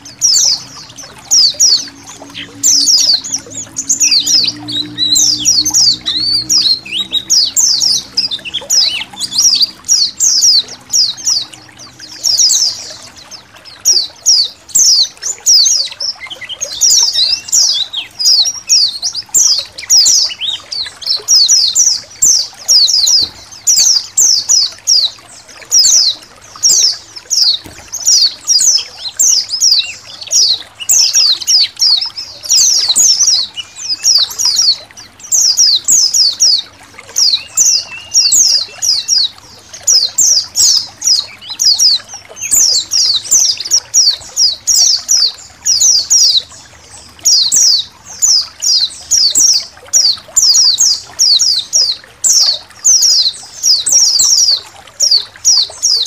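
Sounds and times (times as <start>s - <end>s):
faint water trickling: 0.0s - 56.0s
small birds twittering: 0.0s - 56.0s.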